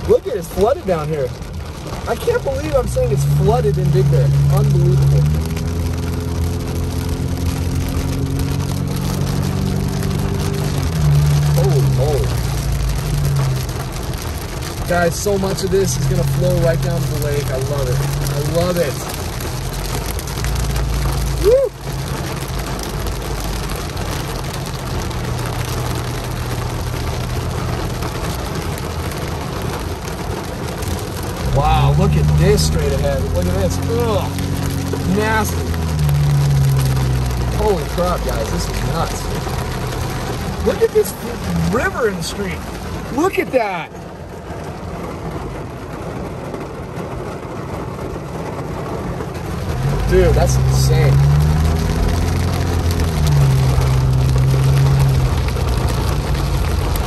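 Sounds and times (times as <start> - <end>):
car engine hum: 0.0 - 57.0
heavy rain on car windshield: 0.0 - 57.0.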